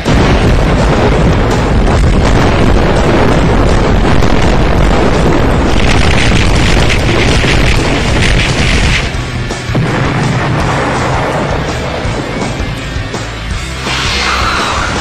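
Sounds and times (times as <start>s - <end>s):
rumbling explosion blast: 0.0s - 12.9s.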